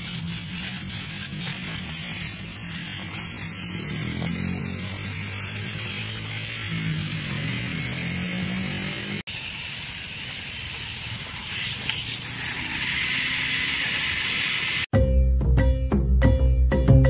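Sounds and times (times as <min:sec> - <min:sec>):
steady hiss: 0:00.0 - 0:14.9.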